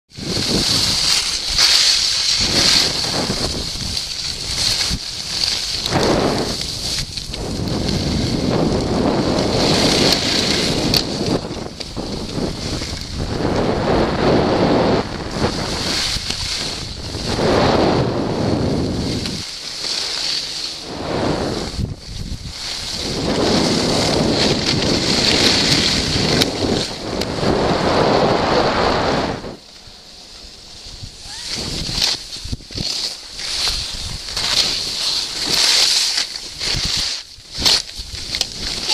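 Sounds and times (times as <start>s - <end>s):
wind rushing over microphone: 0.1s - 19.6s, 20.8s - 35.6s
skis scraping on packed snow: 0.1s - 38.9s.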